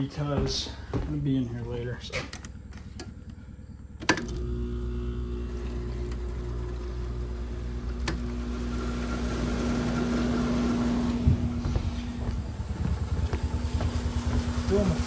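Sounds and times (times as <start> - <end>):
air conditioner compressor hum: 0.0 - 15.0
rushing fan: 0.1 - 15.0.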